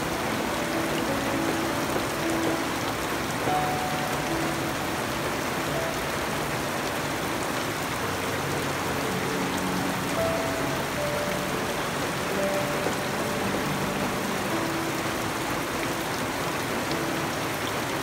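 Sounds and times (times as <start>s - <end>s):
rain on foliage and ground: 0.0s - 18.0s.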